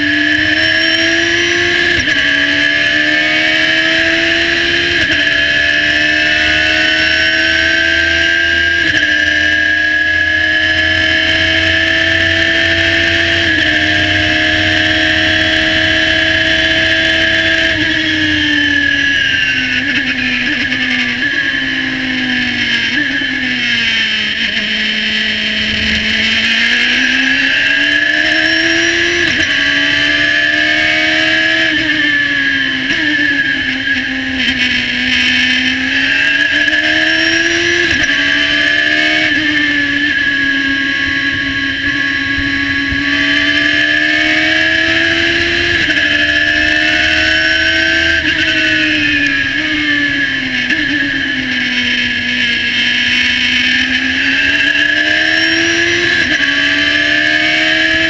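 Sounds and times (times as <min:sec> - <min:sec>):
race car engine revving: 0:00.0 - 0:58.0
high whine: 0:01.4 - 0:58.0.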